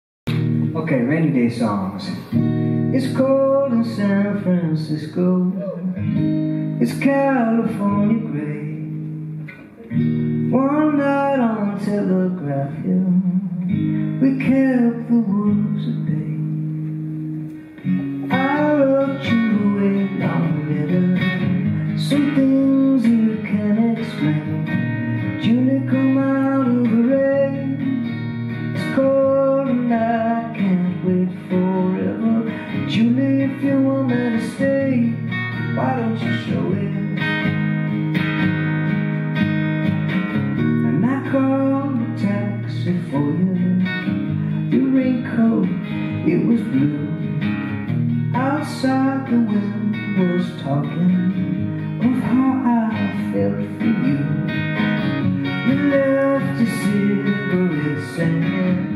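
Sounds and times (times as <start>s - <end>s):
acoustic guitar strumming: 0.3s - 58.9s
man singing: 0.7s - 9.1s, 10.5s - 16.7s, 18.0s - 37.6s, 40.8s - 54.8s, 55.5s - 58.9s.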